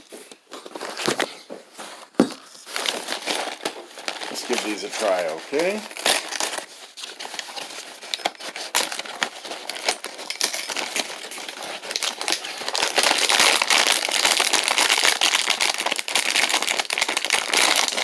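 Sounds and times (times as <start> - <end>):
bag crinkling and crackling: 0.0 - 18.0.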